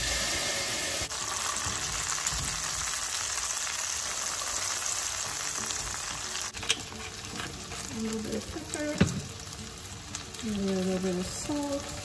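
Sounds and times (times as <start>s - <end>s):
gnocchi sizzling in butter: 0.0s - 12.0s.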